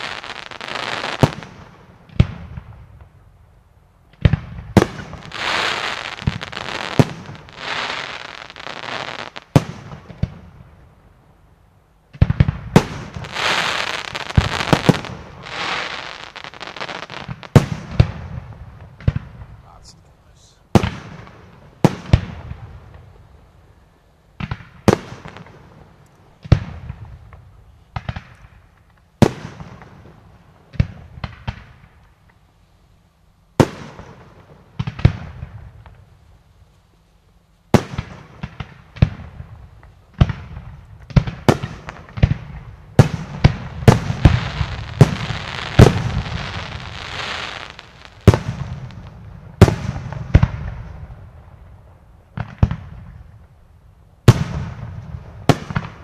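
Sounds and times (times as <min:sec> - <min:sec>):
fireworks bursting with bangs: 0:00.0 - 0:03.2, 0:04.1 - 0:10.6, 0:12.1 - 0:23.4, 0:24.4 - 0:32.0, 0:33.6 - 0:36.1, 0:37.7 - 0:53.6, 0:54.2 - 0:56.0
hissing crackle of fireworks: 0:00.0 - 0:03.3, 0:04.1 - 0:11.1, 0:12.1 - 0:32.8, 0:33.5 - 0:56.0.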